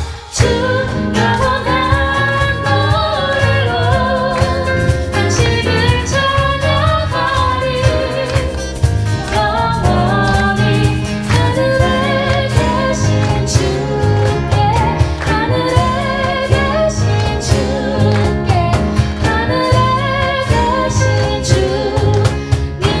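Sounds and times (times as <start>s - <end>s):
cajon beat: 0.0s - 23.0s
keyboard: 0.0s - 23.0s
women singing: 0.0s - 23.0s
electric bass: 0.2s - 23.0s.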